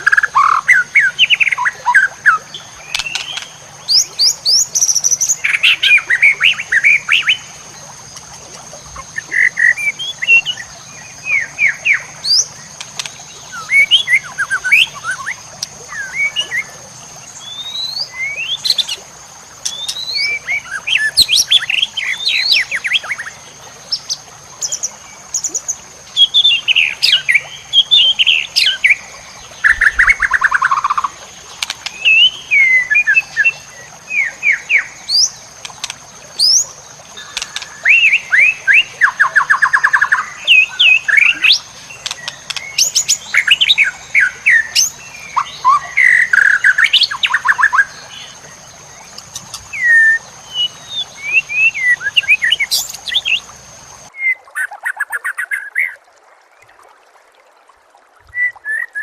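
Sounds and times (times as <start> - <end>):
songbird chirps and trills: 0.0 - 57.0, 58.2 - 59.0.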